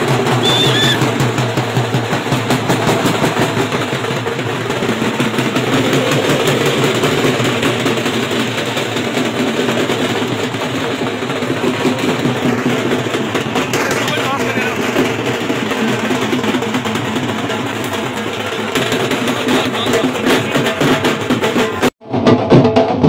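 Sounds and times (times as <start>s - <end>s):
drums beating fast rhythm: 0.0s - 23.0s.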